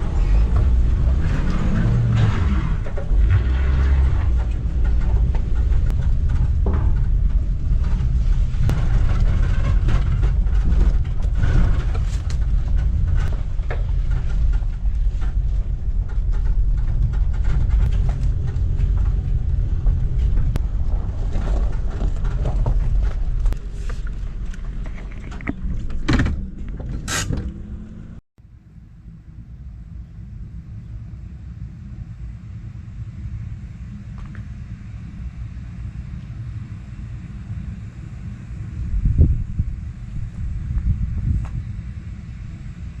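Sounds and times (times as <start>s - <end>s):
low mechanical rumble: 0.0s - 43.0s.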